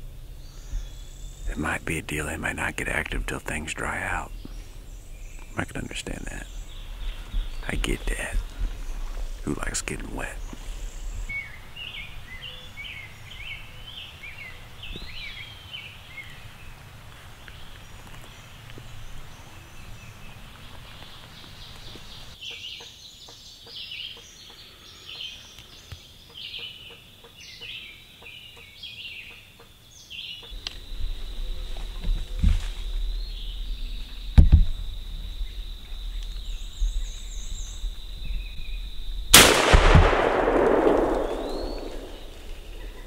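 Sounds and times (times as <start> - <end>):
songbirds singing and chirping: 0.0 - 43.0.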